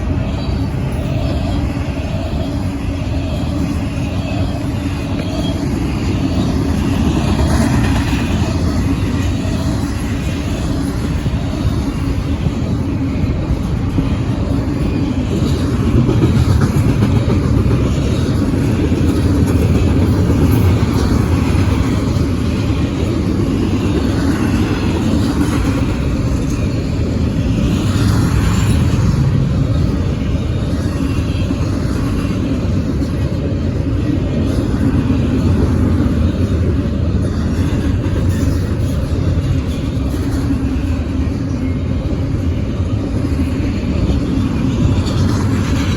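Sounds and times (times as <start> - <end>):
freight train wheels rumbling on rail: 0.0 - 45.9.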